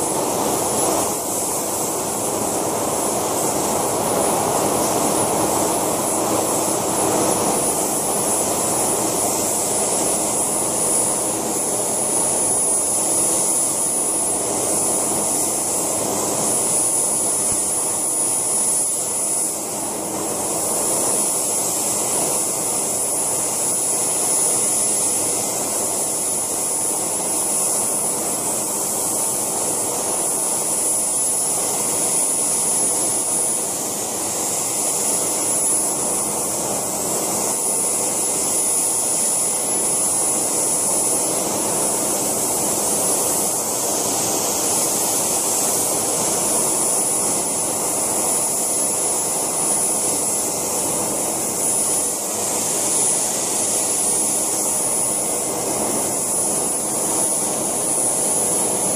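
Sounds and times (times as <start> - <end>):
helicopter rotor noise: 0.0 - 58.9
model turbine high whine: 0.0 - 58.9.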